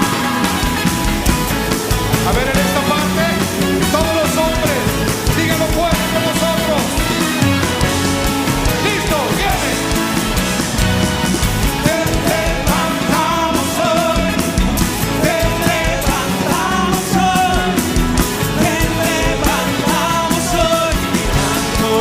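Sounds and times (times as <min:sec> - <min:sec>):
person singing: 0:00.0 - 0:10.8, 0:11.6 - 0:22.0
band playing rock song: 0:00.0 - 0:22.0.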